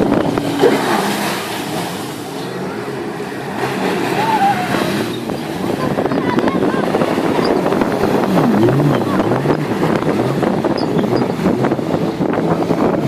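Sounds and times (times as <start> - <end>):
jet ski engine running: 0.0 - 13.0
rush of water: 0.0 - 13.0.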